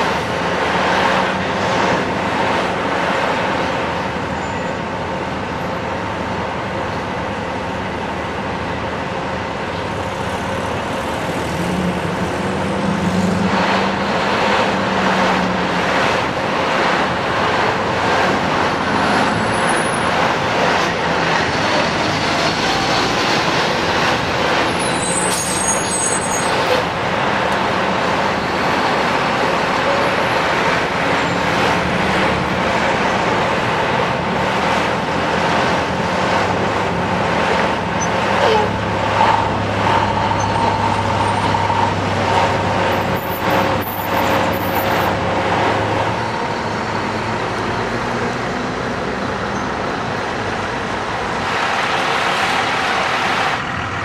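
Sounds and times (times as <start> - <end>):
fire truck diesel engine running: 0.0 - 54.0
road traffic: 0.0 - 54.0.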